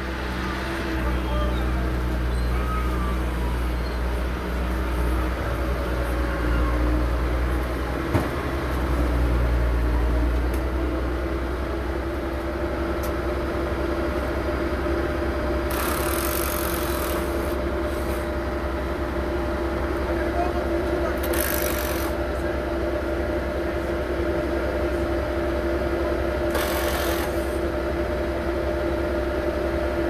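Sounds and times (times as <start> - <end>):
loader engine running: 0.0 - 30.0.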